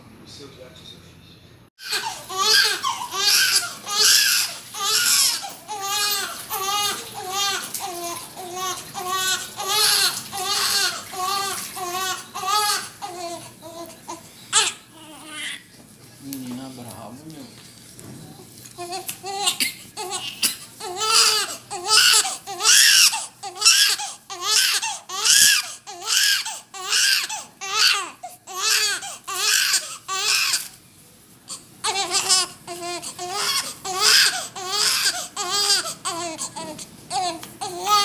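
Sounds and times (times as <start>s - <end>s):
newborn baby crying: 1.8s - 15.7s, 18.8s - 30.8s, 31.4s - 38.0s.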